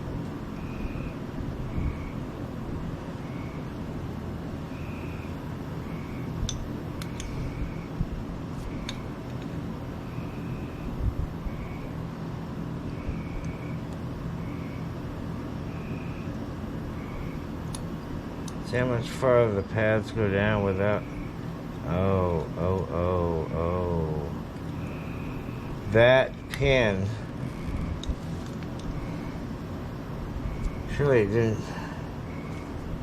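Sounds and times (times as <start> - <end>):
electric fan humming: 0.0 - 33.0.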